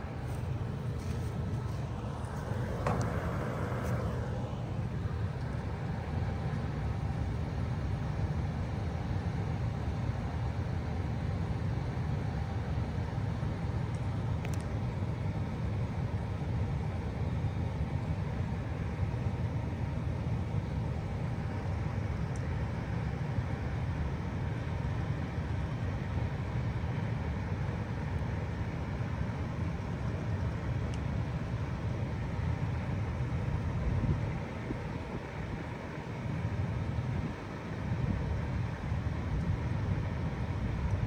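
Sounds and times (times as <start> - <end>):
faint steady tones: 0.0 - 41.0
heat pump humming: 0.0 - 41.0.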